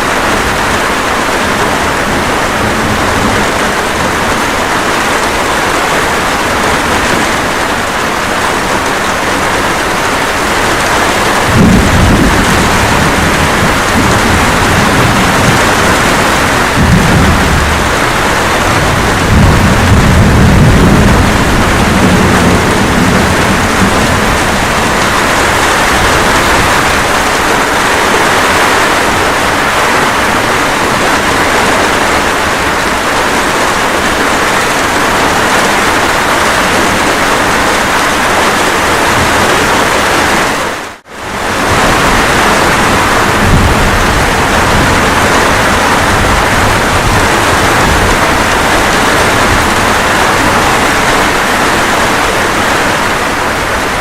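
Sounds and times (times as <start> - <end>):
low thunder rumbling: 0.0 - 40.4, 41.2 - 54.0
steady rain hiss: 0.0 - 54.0.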